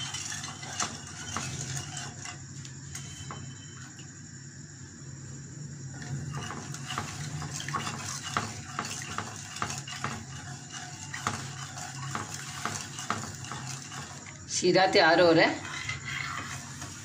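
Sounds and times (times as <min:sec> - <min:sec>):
liquid swishing: 0:00.0 - 0:03.7, 0:06.0 - 0:17.0.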